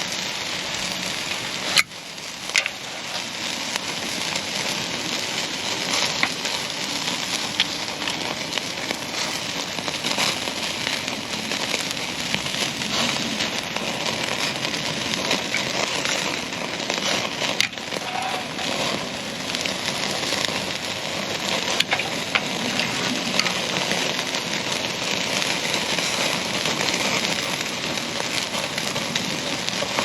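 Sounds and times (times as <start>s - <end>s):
steak sizzling on grill: 0.0s - 30.0s.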